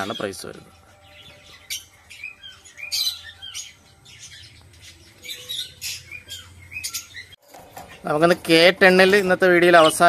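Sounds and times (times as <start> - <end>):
finches chirping: 0.0 - 10.0.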